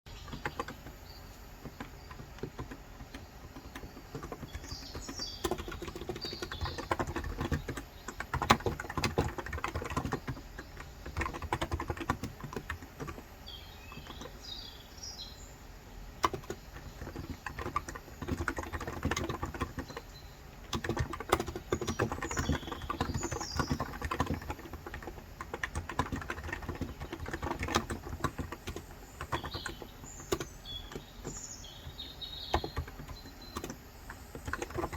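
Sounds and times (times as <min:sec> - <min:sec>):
fast keyboard typing: 0:00.1 - 0:14.6, 0:16.1 - 0:34.9
small birds chirping: 0:00.1 - 0:34.9.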